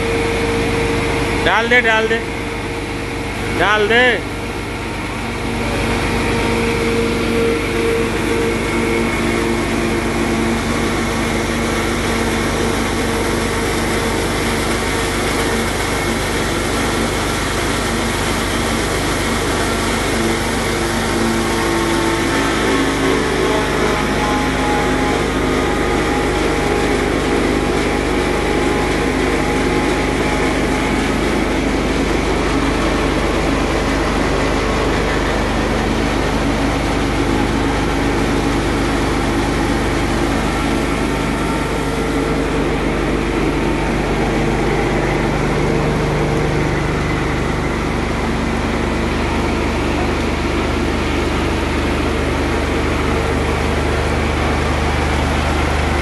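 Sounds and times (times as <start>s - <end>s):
grinding machine humming: 0.0s - 56.0s.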